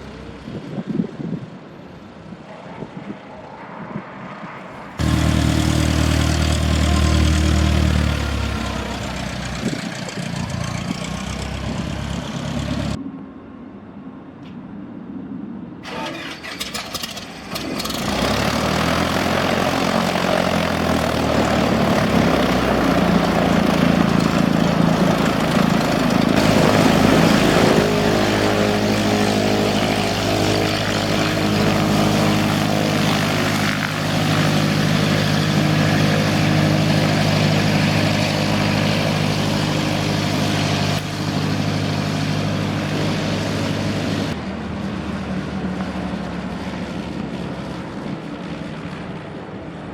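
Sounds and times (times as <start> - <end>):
propeller airplane engine droning: 0.0 - 49.9.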